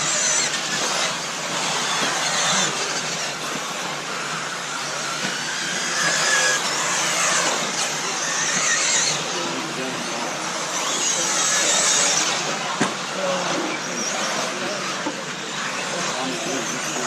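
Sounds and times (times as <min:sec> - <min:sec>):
rc car motors revving: 0:00.0 - 0:17.0.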